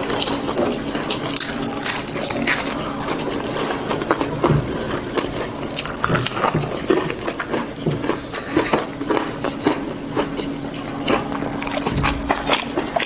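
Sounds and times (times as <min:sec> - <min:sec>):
crunching fried crust: 0:00.0 - 0:13.0.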